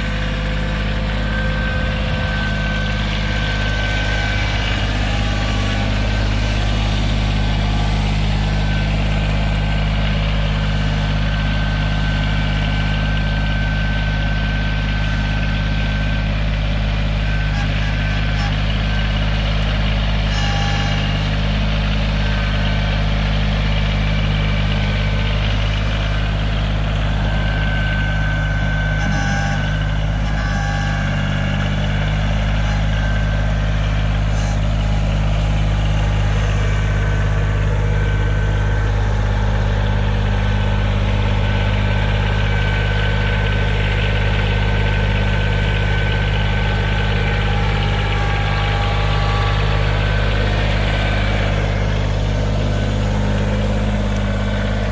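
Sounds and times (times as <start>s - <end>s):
backhoe engine running: 0.0s - 54.9s.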